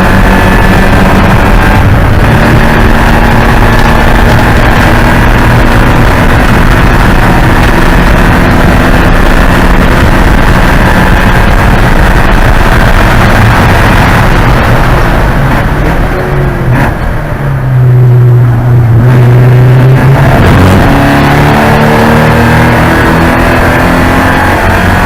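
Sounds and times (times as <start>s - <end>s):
dense rushing noise: 0.0s - 25.0s
race car engine at high revs: 0.0s - 25.0s.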